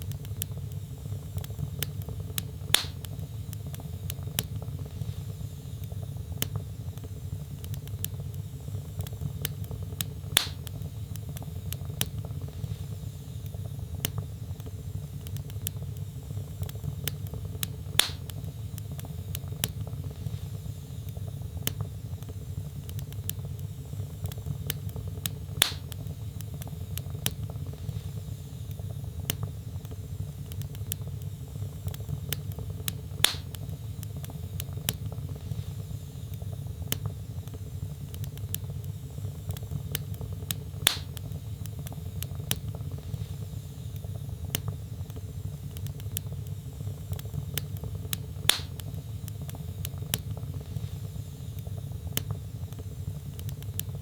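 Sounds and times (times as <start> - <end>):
loud fire pops: 0.0 - 13.0, 13.9 - 35.9, 36.8 - 54.0
logs crackling in a fireplace: 0.0 - 54.0.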